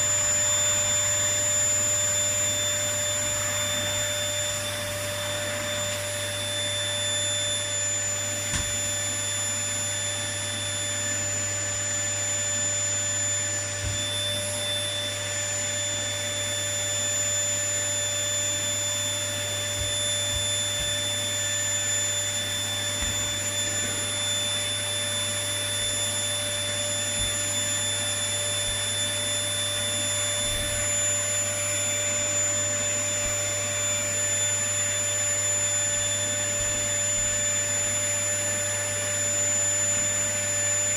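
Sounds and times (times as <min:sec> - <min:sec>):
vacuum cleaner whine: 0:00.0 - 0:40.9.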